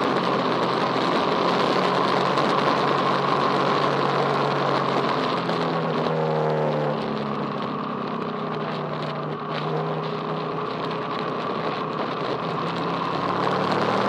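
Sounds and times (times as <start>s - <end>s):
racing engines running: 0.0s - 14.0s.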